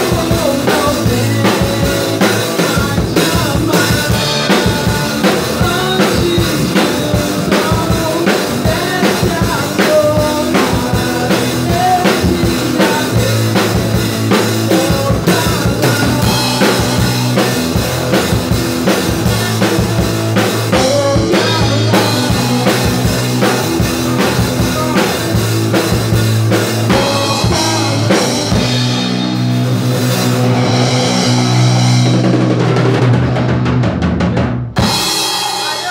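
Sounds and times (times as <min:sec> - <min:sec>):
low bass notes: 0:00.0 - 0:35.2
drum kit beat: 0:00.0 - 0:35.9.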